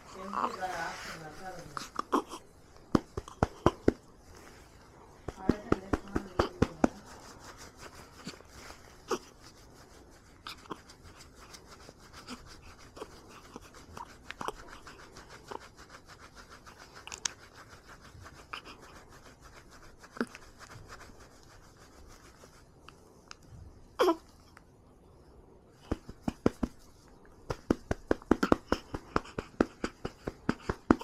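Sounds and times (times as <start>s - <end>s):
rubbing and patting baby's back: 0.0s - 23.3s, 25.8s - 31.0s.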